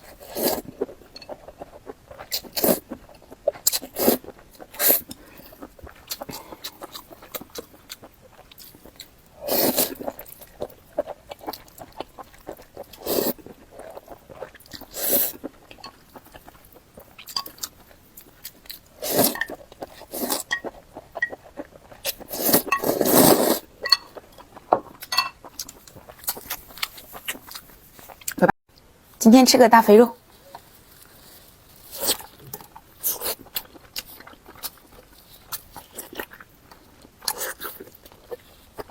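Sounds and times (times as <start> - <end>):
wet chewing: 0.0 - 28.4, 30.5 - 38.9.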